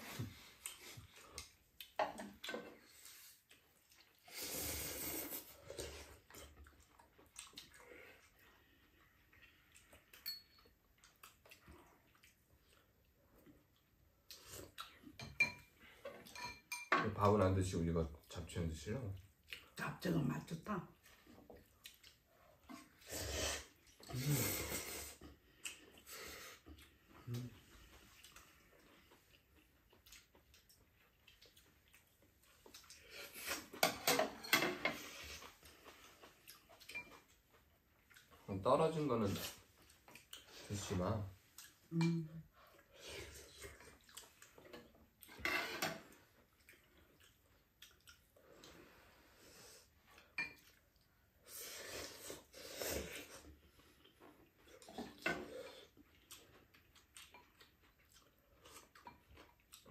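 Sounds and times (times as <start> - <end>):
slurping and chewing: 0.0 - 16.4, 21.0 - 38.5, 39.2 - 59.9.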